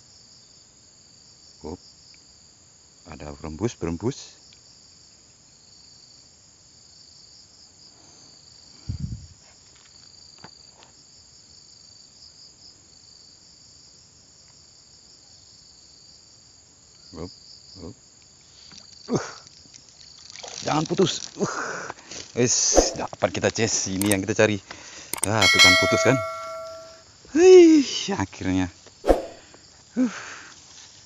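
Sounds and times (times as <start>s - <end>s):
insects chorus: 0.0s - 25.1s, 27.3s - 31.0s.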